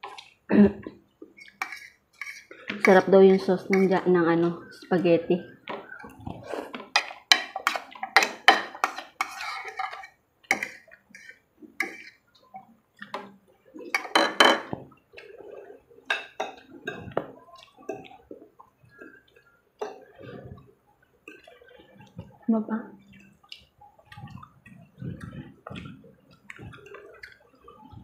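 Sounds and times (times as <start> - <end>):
chewing and slurping: 1.2 - 3.9, 5.8 - 14.0, 15.1 - 28.0.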